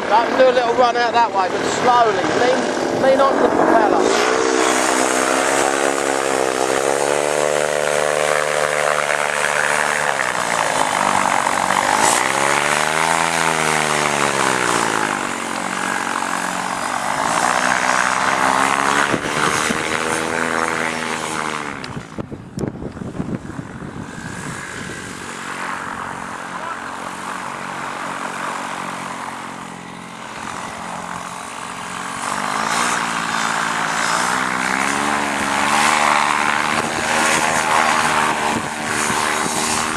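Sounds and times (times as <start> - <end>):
paramotor engine revving: 0.0 - 39.9.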